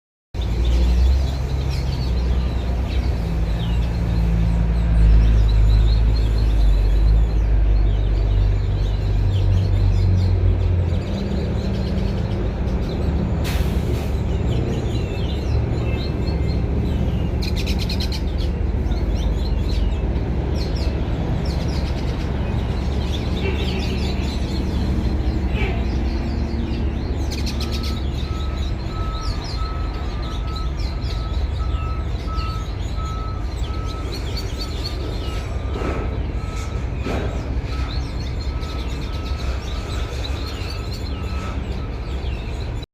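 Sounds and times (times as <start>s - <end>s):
small birds chirping: 0.4s - 42.8s.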